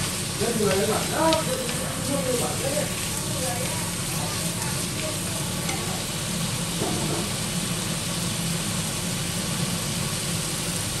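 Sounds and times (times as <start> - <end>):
cooktop low hum: 0.0 - 11.0
meat sizzling in a frying pan: 0.0 - 11.0.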